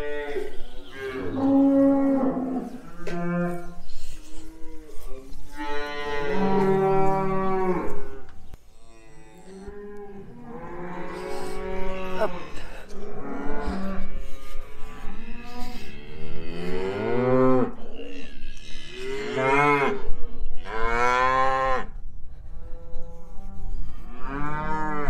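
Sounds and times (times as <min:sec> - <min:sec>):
cows mooing: 0:00.0 - 0:21.9, 0:22.7 - 0:25.0.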